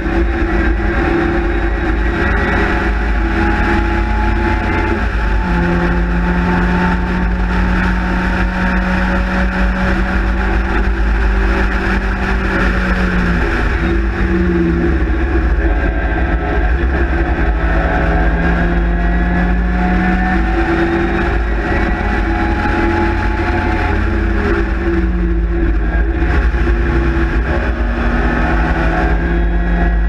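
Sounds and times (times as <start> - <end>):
race car engine running hard: 0.0 - 30.0
wind noise: 0.0 - 30.0.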